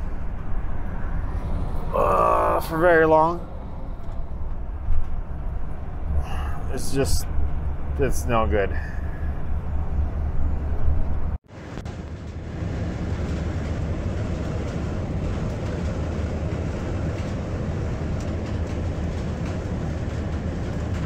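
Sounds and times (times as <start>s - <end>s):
car engine and road drone: 0.0s - 21.0s.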